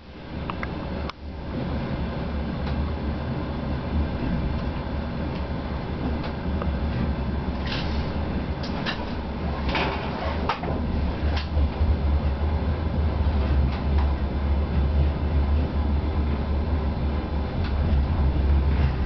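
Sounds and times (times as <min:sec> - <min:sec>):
diesel engine drone: 0:00.0 - 0:19.0.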